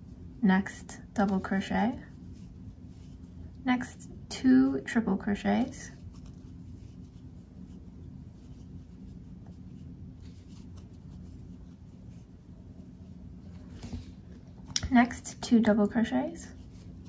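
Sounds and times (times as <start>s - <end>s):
low steady hum: 0.0s - 17.0s
yarn rustling on crochet hook: 0.0s - 17.0s.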